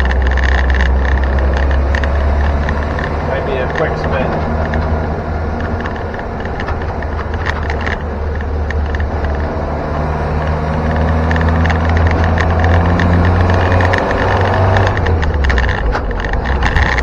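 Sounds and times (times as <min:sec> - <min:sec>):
car engine pulling: 0:00.0 - 0:17.0
tailgate rattling: 0:00.0 - 0:17.0.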